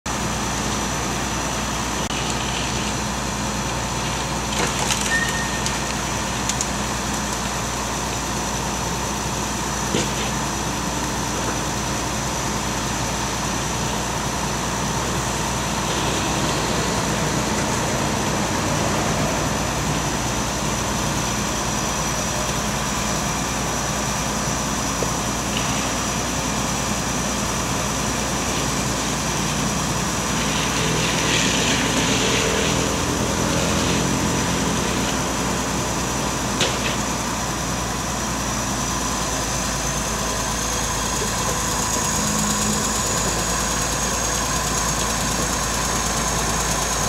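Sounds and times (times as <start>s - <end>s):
heavy machine engine running: 0.1s - 47.0s.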